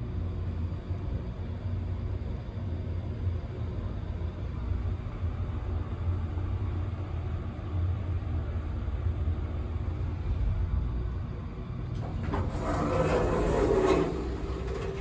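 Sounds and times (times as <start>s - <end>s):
elevator hum and rumble: 0.0s - 15.0s.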